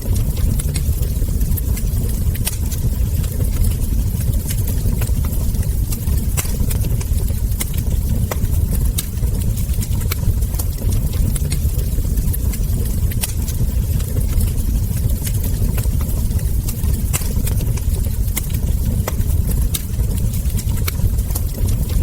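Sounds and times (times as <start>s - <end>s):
fire crackles and ember pops: 0.0s - 22.0s
wood fire rumbling: 0.0s - 22.0s.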